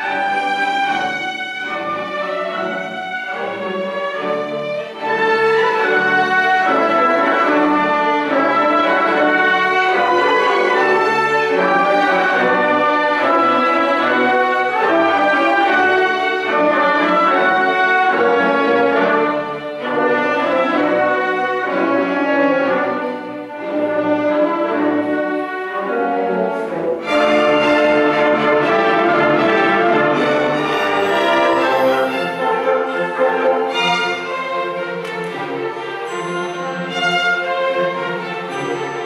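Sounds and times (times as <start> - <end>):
bowed strings: 0.0 - 39.0
wind or brass instrument: 0.0 - 39.0.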